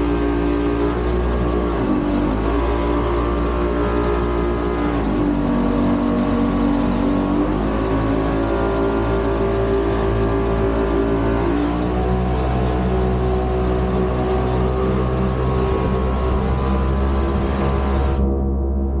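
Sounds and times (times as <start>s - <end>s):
water rushing: 0.0s - 18.3s
wind: 0.0s - 18.4s
boat engine running at speed: 0.0s - 19.0s.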